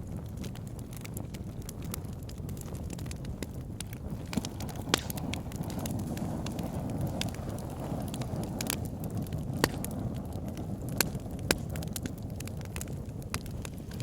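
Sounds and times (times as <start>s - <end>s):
flames rumbling: 0.0s - 14.0s
logs crackling and popping: 0.0s - 14.0s.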